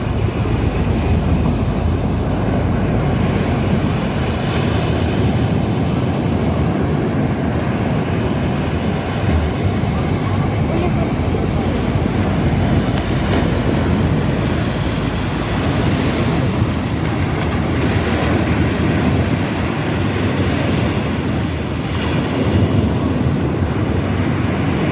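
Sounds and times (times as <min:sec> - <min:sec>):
sea surf washing in: 0:00.0 - 0:24.9
wind rumbling on microphone: 0:00.0 - 0:24.9.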